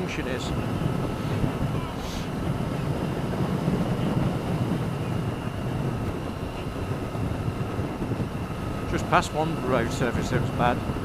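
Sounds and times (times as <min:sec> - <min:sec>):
motorcycle engine drone: 0:00.0 - 0:11.0
road and wind noise: 0:00.0 - 0:11.0.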